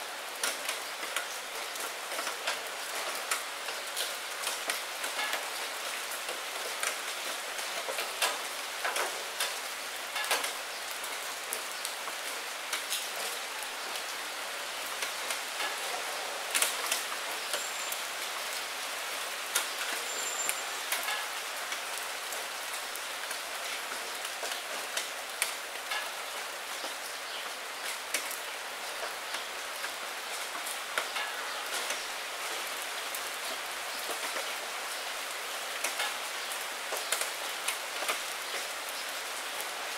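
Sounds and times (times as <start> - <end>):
rain on window glass: 0.1 - 39.9
raindrops tapping: 0.3 - 14.3, 14.9 - 39.8.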